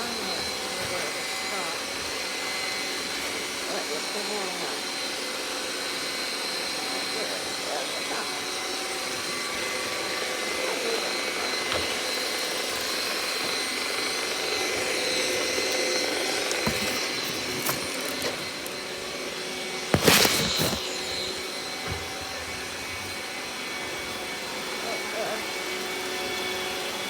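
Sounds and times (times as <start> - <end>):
robot vacuum fan whirring: 0.0 - 27.0.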